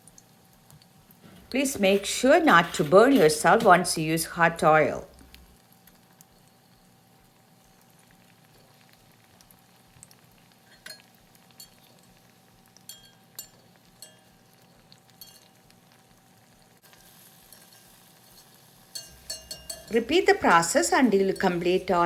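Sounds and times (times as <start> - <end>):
oil sizzling: 0.0 - 22.0.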